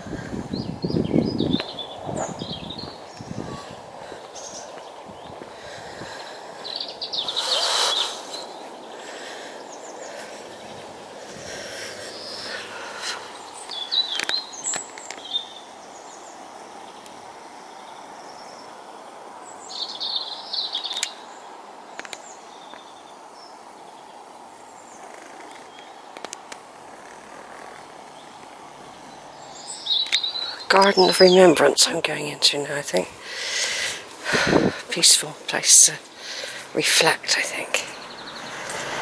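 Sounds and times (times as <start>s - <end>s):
outdoor background hiss: 0.0s - 39.0s
small birds chirping: 0.0s - 39.0s.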